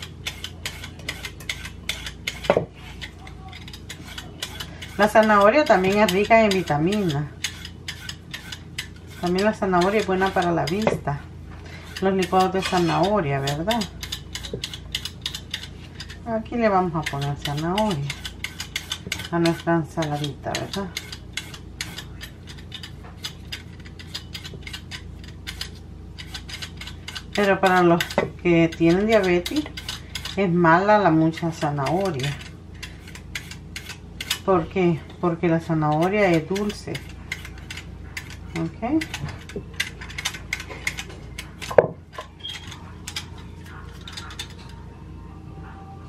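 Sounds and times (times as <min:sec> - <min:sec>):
peeler scraping carrot: 0:00.0 - 0:44.8.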